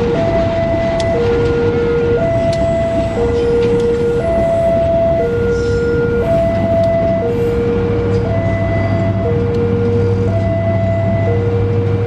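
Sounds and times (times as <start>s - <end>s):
train wheels rumbling on rails: 0.0s - 12.0s
two-tone crossing alarm: 0.0s - 12.0s.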